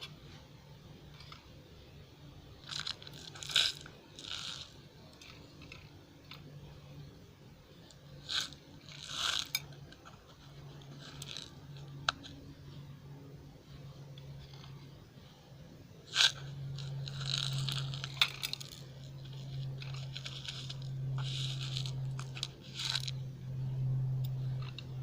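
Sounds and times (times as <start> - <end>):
solder pieces scraping and rattling: 1.0 - 1.6, 2.4 - 6.9, 7.8 - 12.8, 13.9 - 15.1, 16.0 - 25.0.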